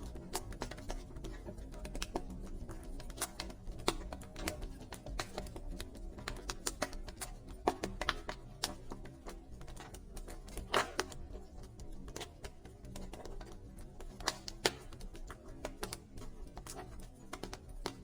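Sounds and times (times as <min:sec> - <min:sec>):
soft background music: 0:00.0 - 0:18.0
wood fire crackling and popping: 0:00.0 - 0:18.0.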